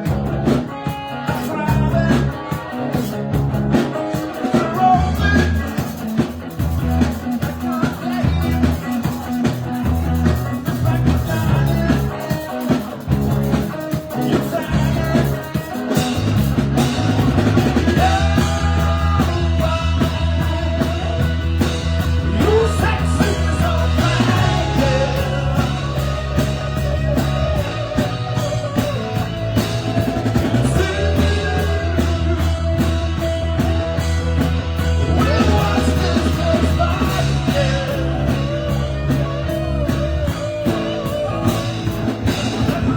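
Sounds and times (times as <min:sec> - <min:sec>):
live rock band playing: 0:00.0 - 0:42.9
loud steady bass line: 0:00.0 - 0:42.9.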